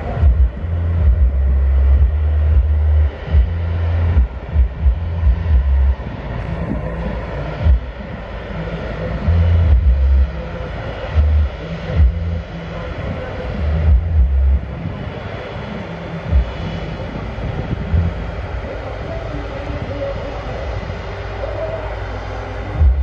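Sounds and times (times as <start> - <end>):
jet engines rumbling: 0.0 - 23.0
loud low bursts: 0.0 - 23.0.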